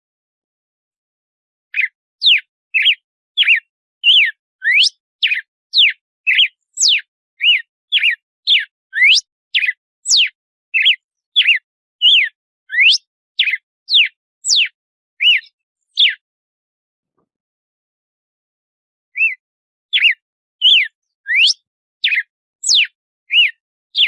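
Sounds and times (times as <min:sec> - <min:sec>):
bird singing whistled notes: 0:01.7 - 0:16.2, 0:19.1 - 0:24.0.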